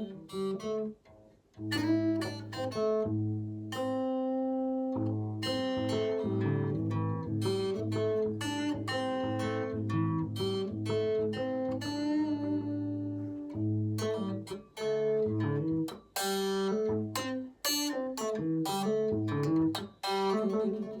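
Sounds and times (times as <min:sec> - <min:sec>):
acoustic guitar blues: 0:00.0 - 0:21.0.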